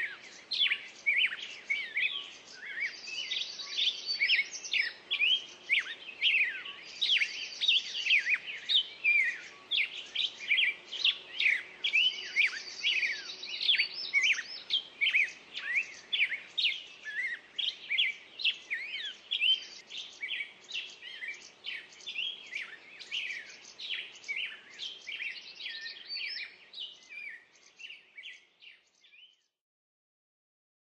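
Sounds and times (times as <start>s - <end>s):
songbirds chirping and trilling: 0.0s - 29.6s.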